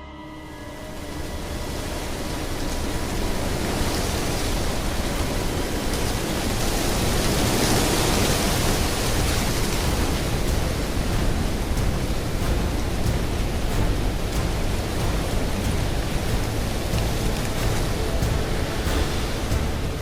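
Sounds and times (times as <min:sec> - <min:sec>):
dense rushing noise: 0:00.9 - 0:20.0.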